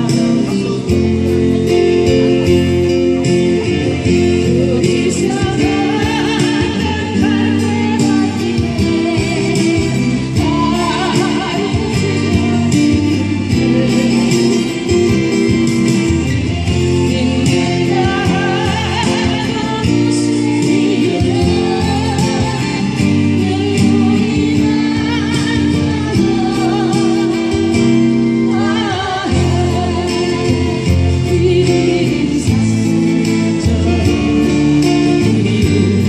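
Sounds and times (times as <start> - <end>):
person singing with vibrato: 0.0 - 36.0
plucked guitar: 0.0 - 36.0.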